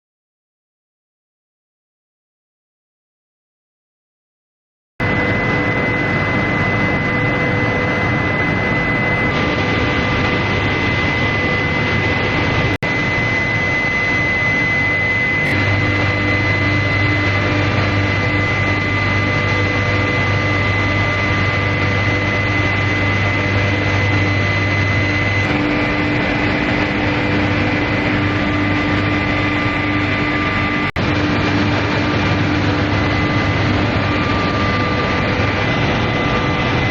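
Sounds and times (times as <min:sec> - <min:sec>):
machine high whine: 0:05.0 - 0:36.9
machine low hum: 0:05.0 - 0:36.9.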